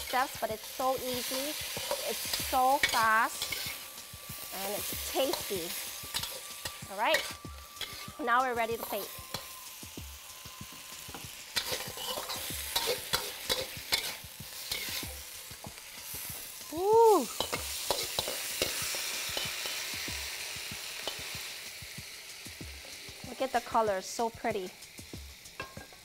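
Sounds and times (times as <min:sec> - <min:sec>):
metal spatula scraping a wok: 0:00.0 - 0:16.6, 0:17.3 - 0:24.6, 0:25.3 - 0:26.0
stir-fry sizzling in a wok: 0:00.0 - 0:26.0.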